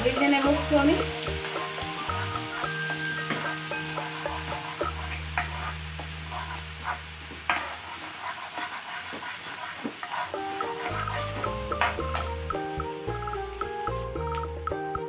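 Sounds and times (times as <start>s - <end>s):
food sizzling in hot oil: 0.0s - 15.0s
metal spatula stirring in pan: 0.2s - 13.4s.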